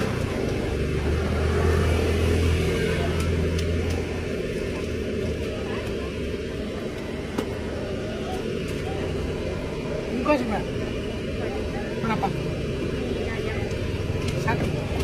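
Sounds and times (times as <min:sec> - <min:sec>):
passing motor vehicle rumble: 0:00.0 - 0:15.0.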